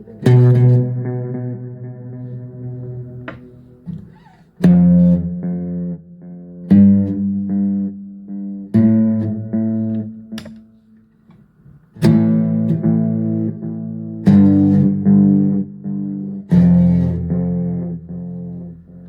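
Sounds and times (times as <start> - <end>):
electric guitar chords with echoes: 0.0 - 19.0.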